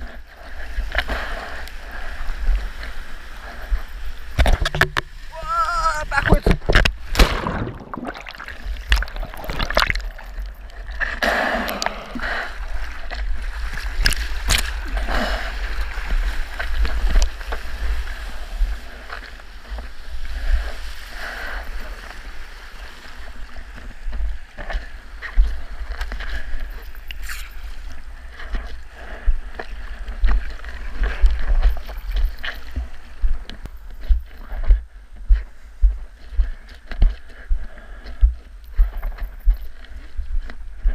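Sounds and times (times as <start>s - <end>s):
water splashing and sloshing: 0.0s - 35.2s.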